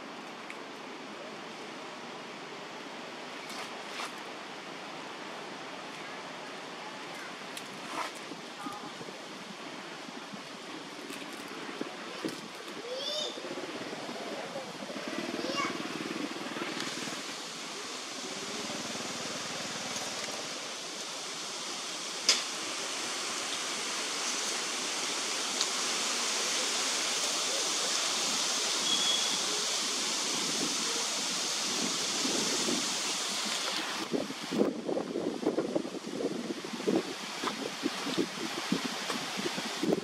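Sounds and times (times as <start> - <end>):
steady outdoor hiss: 0.0 - 40.0.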